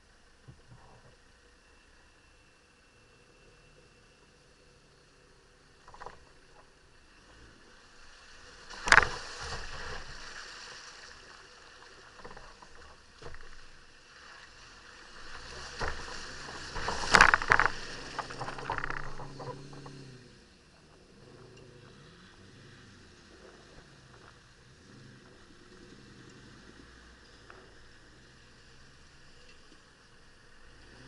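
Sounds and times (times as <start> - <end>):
vehicle engine working: 0.0 - 31.0
water sloshing around wheels: 0.0 - 31.0.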